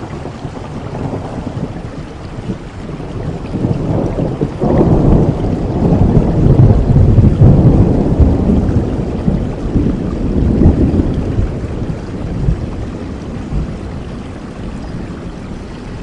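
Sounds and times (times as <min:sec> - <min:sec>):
rolling thunder: 0:00.0 - 0:16.0
steady rain: 0:00.0 - 0:16.0.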